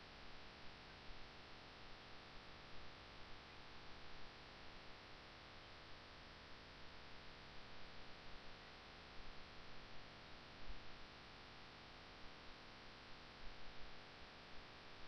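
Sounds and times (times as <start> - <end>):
faint steady hiss and hum: 0.0 - 15.0.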